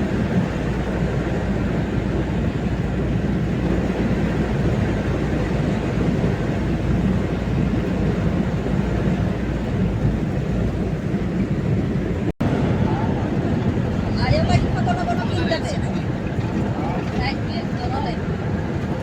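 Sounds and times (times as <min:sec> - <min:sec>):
waterfall rumble: 0:00.0 - 0:19.0.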